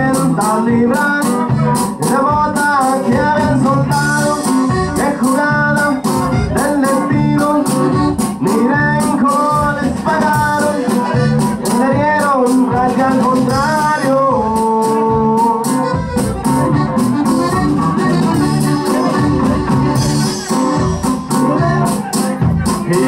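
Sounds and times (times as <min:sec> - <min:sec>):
accordion melody: 0:00.0 - 0:23.0
electric bass: 0:00.0 - 0:23.0
steady drum beat: 0:00.0 - 0:23.0.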